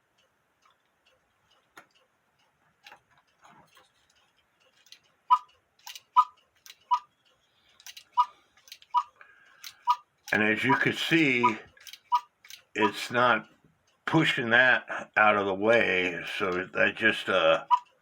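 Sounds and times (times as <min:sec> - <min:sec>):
clock tick-tock: 0:00.0 - 0:03.4, 0:04.1 - 0:18.0
clock clicks: 0:00.0 - 0:14.5, 0:15.3 - 0:18.0.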